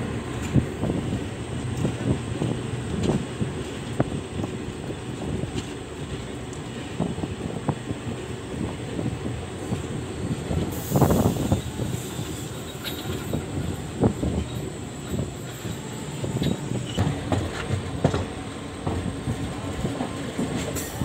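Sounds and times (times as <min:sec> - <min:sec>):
train wheels rumbling: 0:00.0 - 0:21.0
wheels clicking over rail joints: 0:00.2 - 0:21.0.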